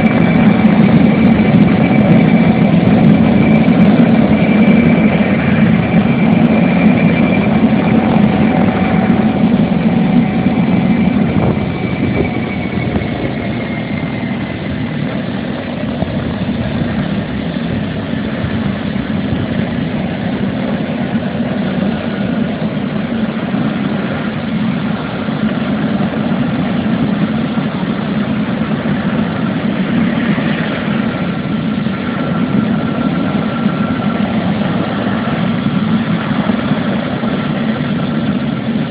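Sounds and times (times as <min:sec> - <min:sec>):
helicopter engine whine: 0:00.0 - 0:38.9.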